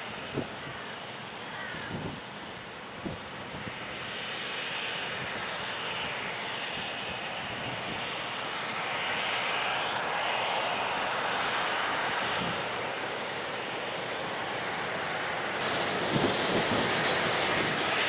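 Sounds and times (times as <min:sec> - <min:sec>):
jet engine whine and rush: 0:00.0 - 0:18.0.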